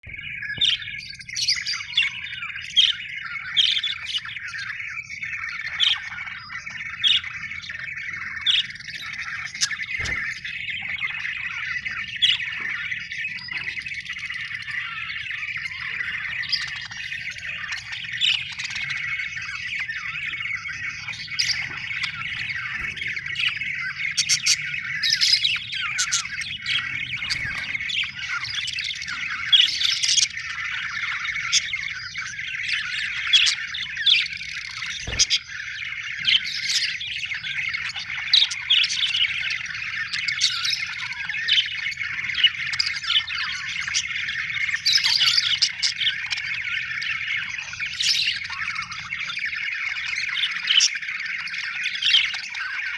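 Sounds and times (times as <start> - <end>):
bird squawks: 0.0 - 52.9
budgerigars chirping: 0.0 - 52.9.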